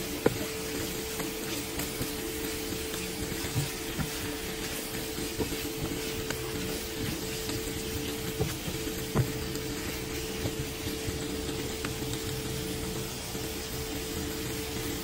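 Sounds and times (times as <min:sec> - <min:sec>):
steady low hum: 0:00.0 - 0:15.0
vegetables sizzling in a pan: 0:00.0 - 0:15.0
spatula tapping and scraping pan: 0:00.1 - 0:12.8.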